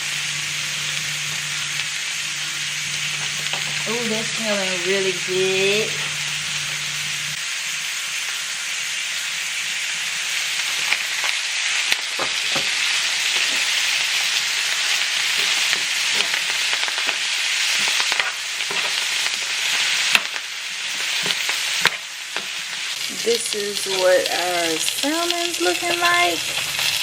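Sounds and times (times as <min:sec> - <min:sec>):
fish sizzling in a pan: 0:00.0 - 0:27.0.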